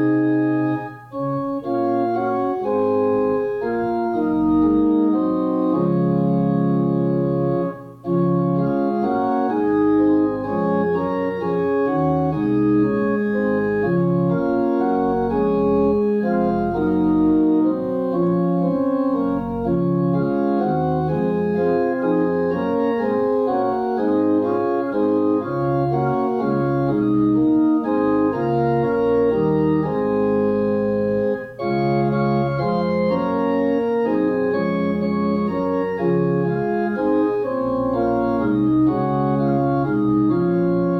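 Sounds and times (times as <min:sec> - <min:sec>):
church organ playing chords: 0:00.0 - 0:40.9.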